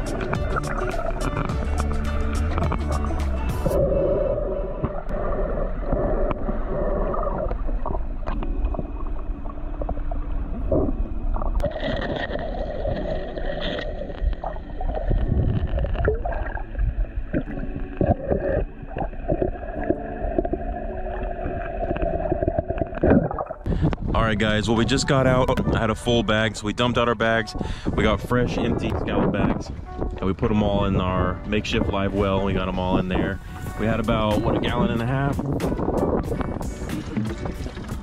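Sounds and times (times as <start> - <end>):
water gurgling underwater: 0.0 - 26.5, 28.0 - 38.0
steady underwater drone: 0.0 - 33.9, 35.1 - 38.0.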